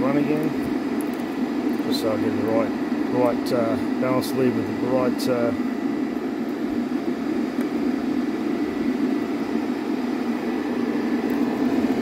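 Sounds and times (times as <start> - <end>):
cooling fans running: 0.0 - 12.0.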